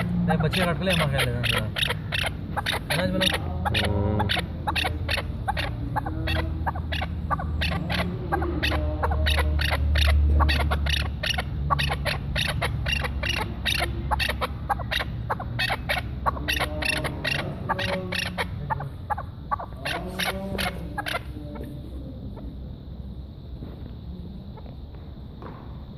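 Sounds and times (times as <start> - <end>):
partridge chuck calls: 0.0 - 22.5.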